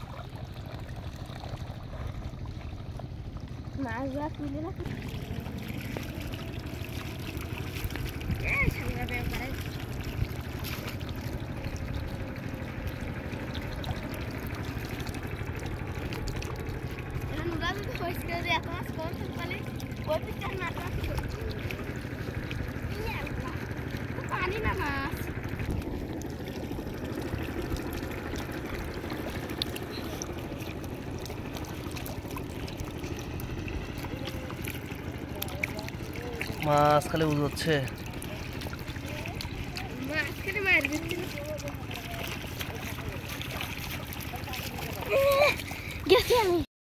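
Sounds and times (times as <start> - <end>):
shallow water rushing: 0.0 - 46.7
fish splashing at surface: 4.4 - 46.6.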